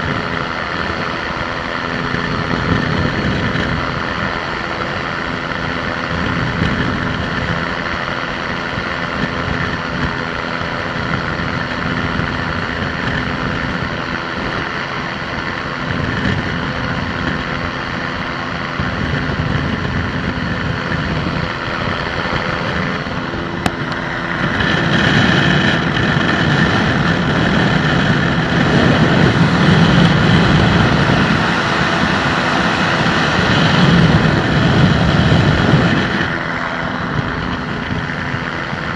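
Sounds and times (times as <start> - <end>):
aircraft engine and propeller droning: 0.0 - 38.9
wind rush: 0.0 - 38.9.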